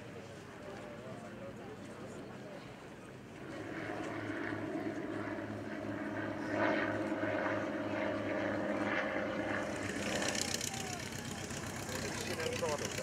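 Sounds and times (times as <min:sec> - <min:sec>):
propeller aircraft flying past: 0:00.0 - 0:13.0.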